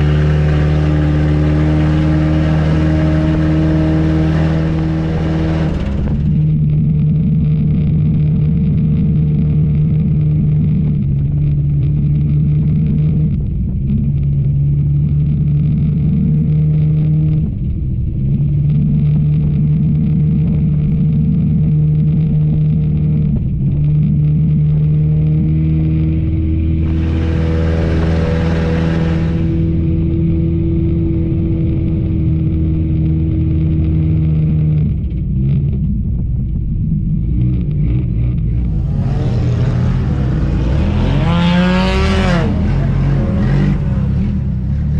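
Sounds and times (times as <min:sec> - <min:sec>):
race car engine running hard: 0:00.0 - 0:44.9.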